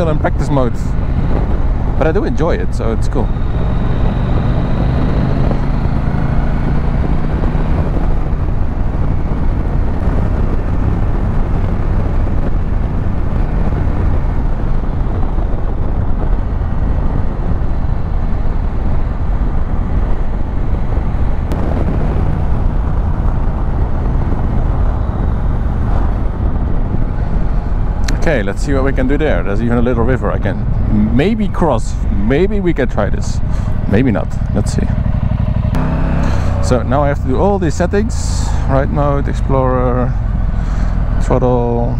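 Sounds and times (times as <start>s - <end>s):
wind rush on microphone: 0.0s - 41.9s
motorcycle engine running: 3.0s - 29.4s, 30.4s - 41.9s.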